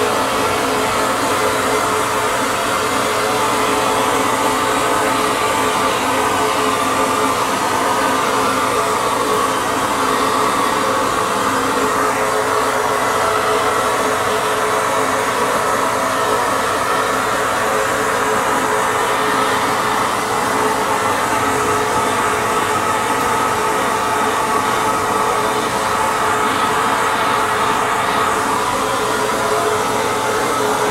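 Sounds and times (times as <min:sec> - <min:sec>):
steady hum: 0:00.0 - 0:30.9.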